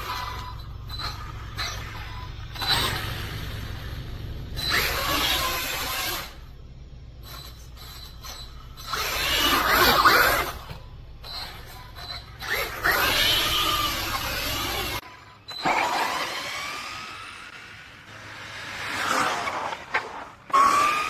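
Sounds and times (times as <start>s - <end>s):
rc truck motor whirring: 0.0s - 21.0s.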